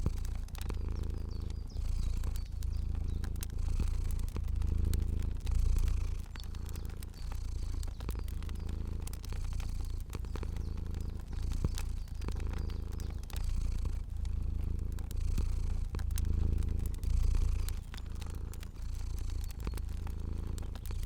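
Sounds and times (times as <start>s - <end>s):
cat purring: 0.0s - 21.0s
fire crackling: 0.0s - 21.0s.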